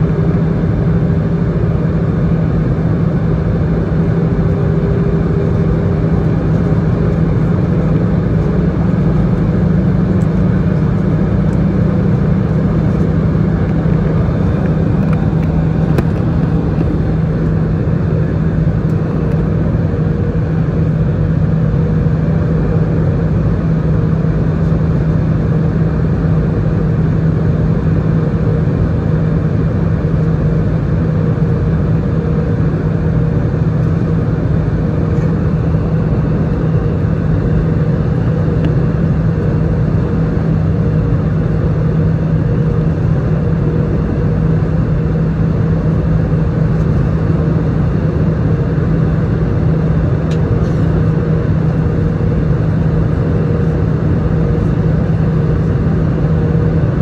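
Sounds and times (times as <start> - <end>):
airliner cabin engine and airflow rush: 0.0 - 57.0
constant low hum: 0.0 - 57.0.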